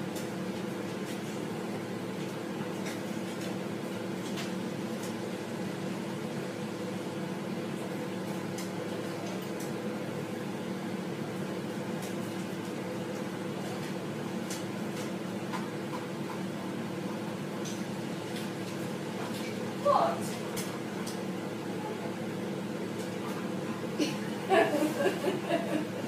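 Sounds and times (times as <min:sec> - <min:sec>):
kitchen appliance humming: 0:00.0 - 0:26.0.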